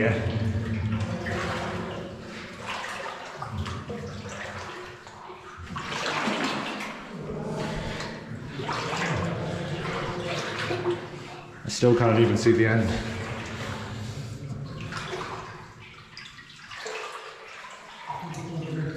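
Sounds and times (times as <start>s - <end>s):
water sloshing around wading legs: 0.0s - 18.9s.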